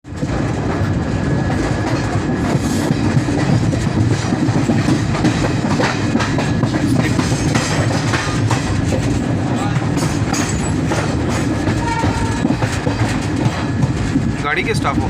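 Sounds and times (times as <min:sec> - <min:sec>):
train rumble: 0:00.0 - 0:15.0
train wheels clattering over joints: 0:00.1 - 0:15.0.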